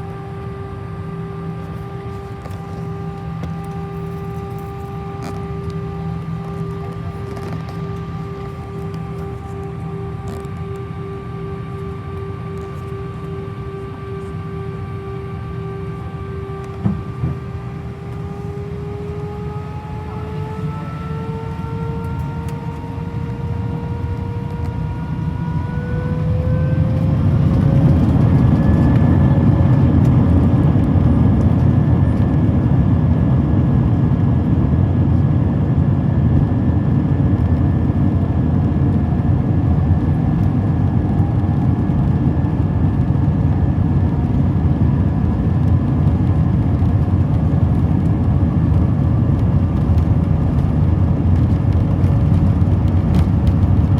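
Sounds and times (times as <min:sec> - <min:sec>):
jet engines whining: 0:00.0 - 0:53.9
takeoff roar and rumble: 0:00.0 - 0:53.9.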